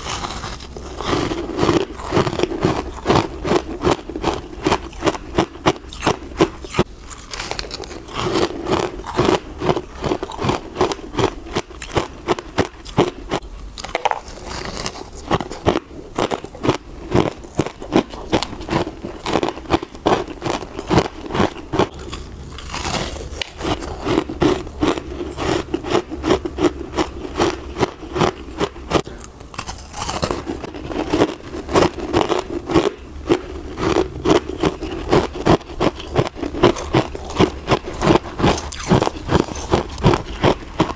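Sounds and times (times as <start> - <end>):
crunchy chewing of ice: 0.0 - 40.9.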